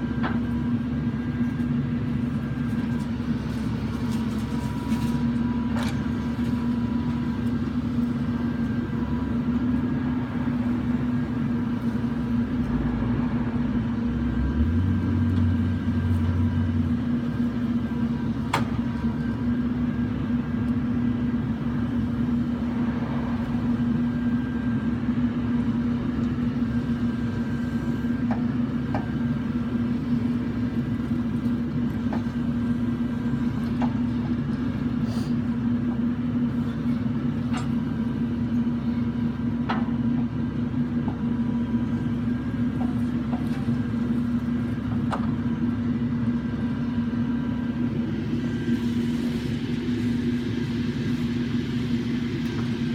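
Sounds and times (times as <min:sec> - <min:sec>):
truck engine droning: 0:00.0 - 0:52.9.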